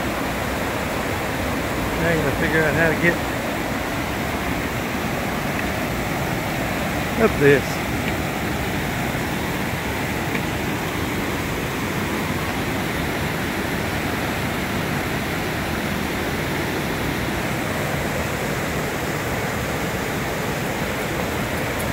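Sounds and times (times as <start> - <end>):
waterfall roaring: 0.0 - 21.9.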